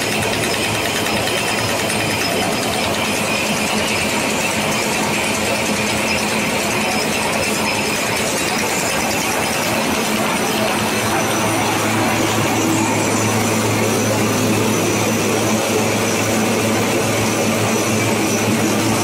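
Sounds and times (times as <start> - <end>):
machine rattling: 0.0 - 19.0.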